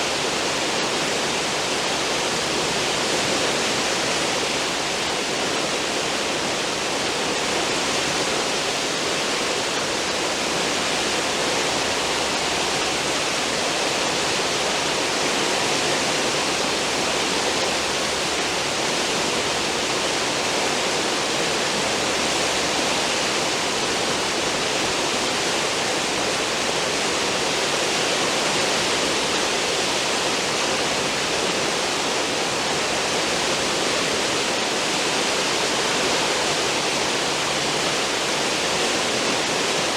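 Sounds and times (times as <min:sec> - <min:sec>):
foaming water rushing: 0:00.0 - 0:39.9.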